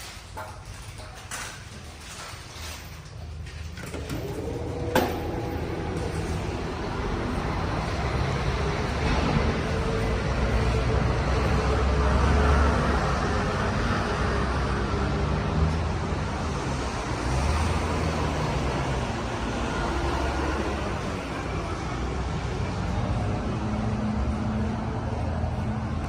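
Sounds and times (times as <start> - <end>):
road traffic noise: 0.0 - 26.0
vehicle passing: 3.9 - 26.0.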